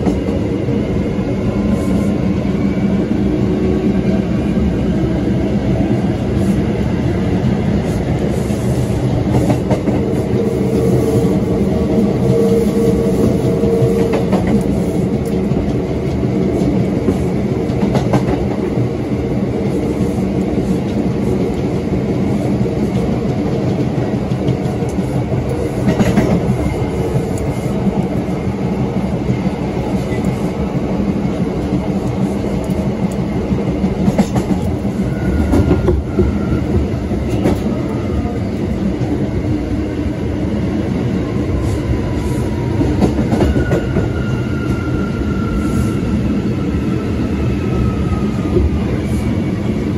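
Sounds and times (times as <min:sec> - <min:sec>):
subway train wheels rumbling: 0:00.0 - 0:49.9.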